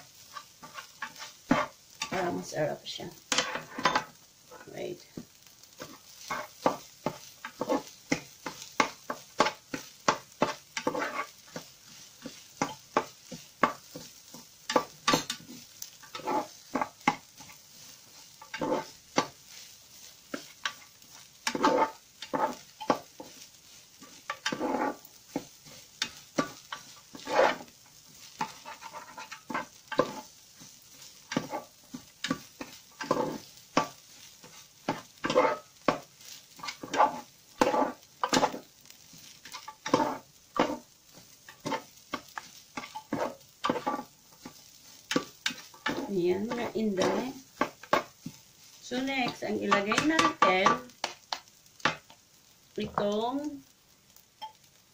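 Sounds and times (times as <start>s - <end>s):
spatula scraping frying pan: 0.0s - 53.4s
faint sizzle: 0.0s - 54.9s.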